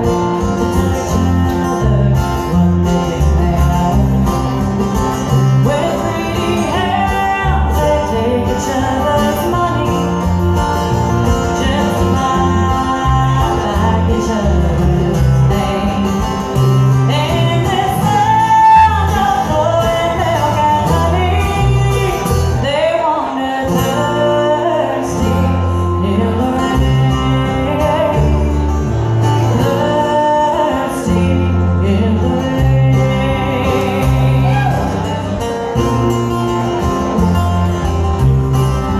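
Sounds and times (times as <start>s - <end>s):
woman singing: 0.0s - 4.7s, 5.3s - 10.6s, 11.3s - 36.4s
acoustic guitar: 0.0s - 38.9s
banjo: 0.0s - 38.9s
upright bass plucking: 0.0s - 38.9s.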